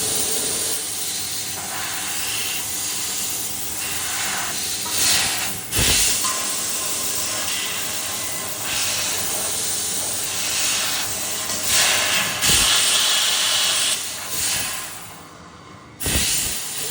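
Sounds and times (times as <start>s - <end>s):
laser cutter gas hiss: 0.0s - 15.2s, 16.0s - 16.9s.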